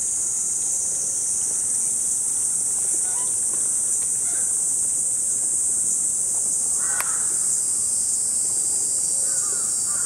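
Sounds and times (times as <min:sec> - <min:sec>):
cicadas buzzing: 0:00.0 - 0:10.0.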